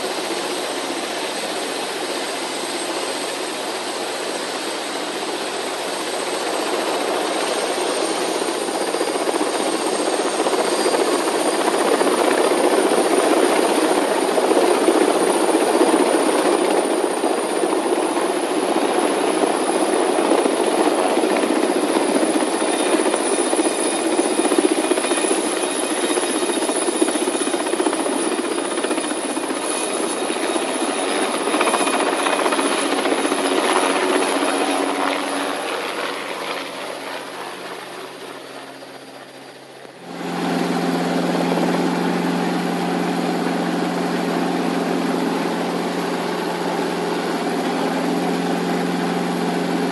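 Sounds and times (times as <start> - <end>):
drone propellers buzzing: 4.6 - 49.9.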